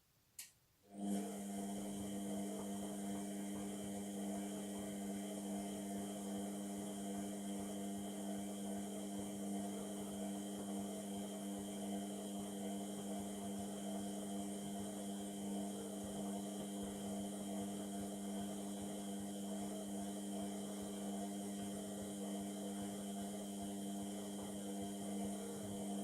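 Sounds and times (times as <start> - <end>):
washing machine humming and whirring: 0.9 - 26.0.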